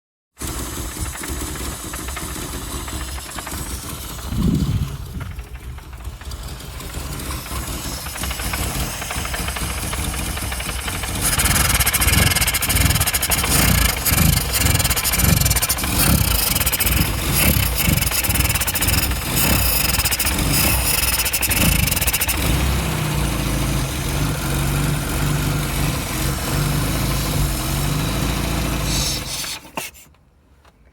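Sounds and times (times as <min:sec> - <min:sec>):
engine running roughly: 0:00.4 - 0:30.0.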